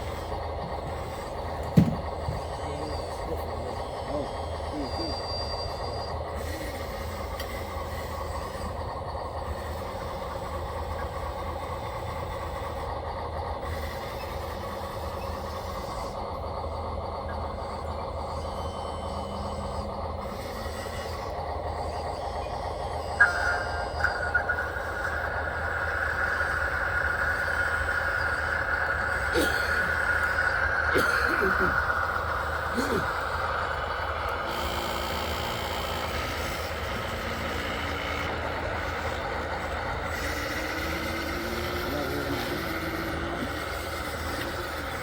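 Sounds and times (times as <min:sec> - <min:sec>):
higher-pitched whine: 0:00.0 - 0:12.9, 0:13.6 - 0:45.0
electric motors whining: 0:00.0 - 0:45.0
low hum: 0:00.0 - 0:45.0.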